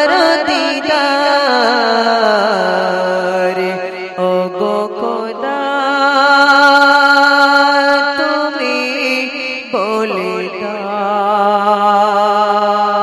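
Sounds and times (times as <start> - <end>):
person singing long wavering notes: 0.0 - 13.0.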